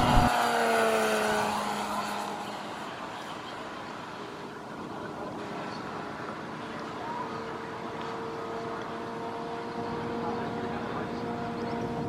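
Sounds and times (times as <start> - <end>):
model airplane engine passing: 0.0 - 12.0.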